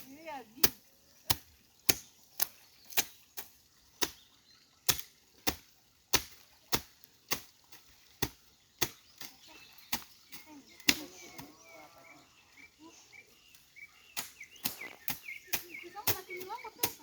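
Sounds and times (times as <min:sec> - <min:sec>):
hand tool chopping vegetation: 0:00.0 - 0:04.3, 0:04.9 - 0:11.6, 0:14.1 - 0:17.0.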